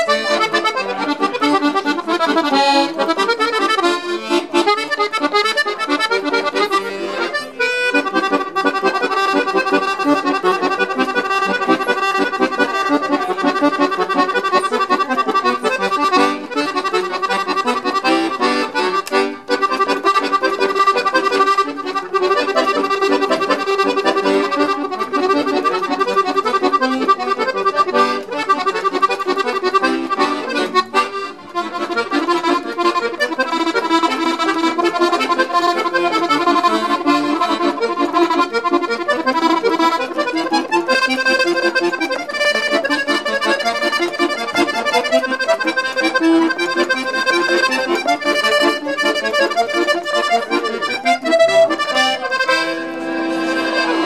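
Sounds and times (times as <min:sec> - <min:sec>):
accordion melody: 0:00.0 - 0:54.0.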